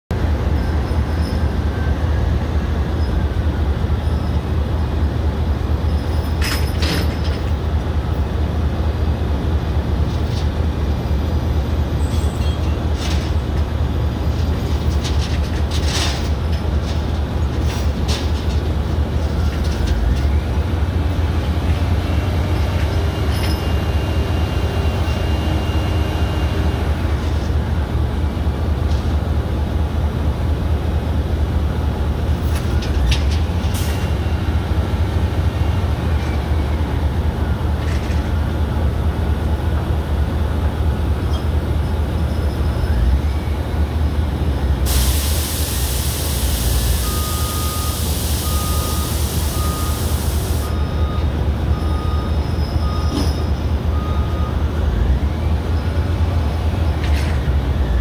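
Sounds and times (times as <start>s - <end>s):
diesel engine rumbling: 0.1s - 58.0s.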